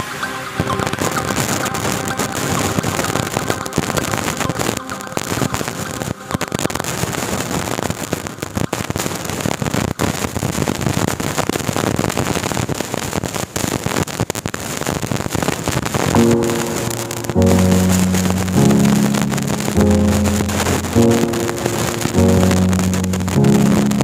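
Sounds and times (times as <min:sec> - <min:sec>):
crackling outdoor noise with pops: 0:00.6 - 0:24.0.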